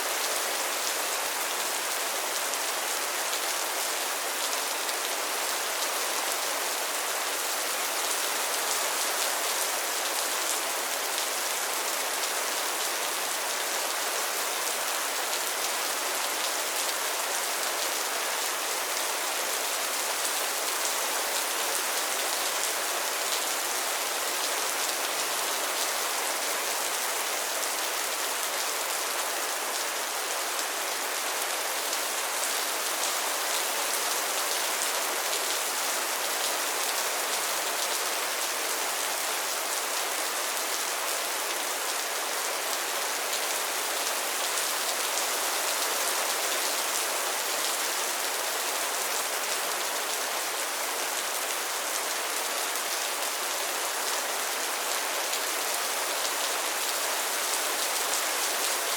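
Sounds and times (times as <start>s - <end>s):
rain falling on pond: 0.0s - 58.9s.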